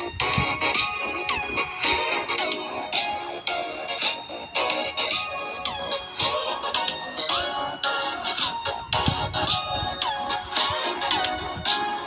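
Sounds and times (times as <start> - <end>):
electronic ringtone melody: 0.0 - 12.0.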